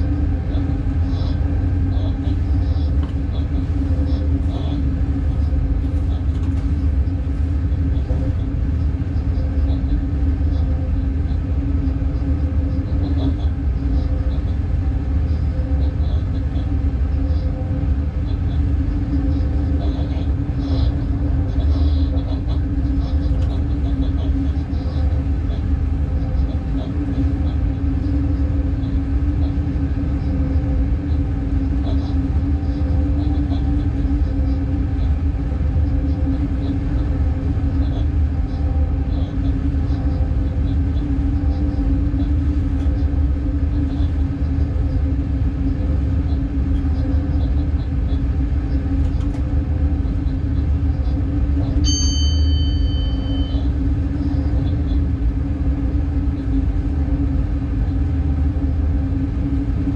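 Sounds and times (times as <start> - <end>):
constant low hum: 0.0 - 59.9
running train rumble: 0.0 - 59.9.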